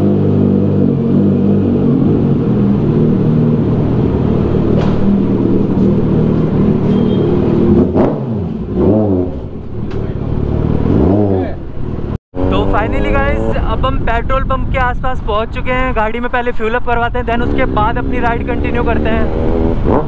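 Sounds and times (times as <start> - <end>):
motorcycle engine revving: 0.0 - 13.9, 17.2 - 20.0.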